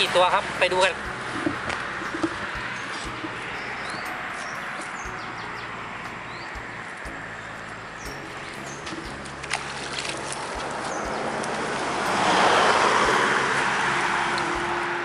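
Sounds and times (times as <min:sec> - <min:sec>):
water sloshing and rushing: 0:00.0 - 0:15.0.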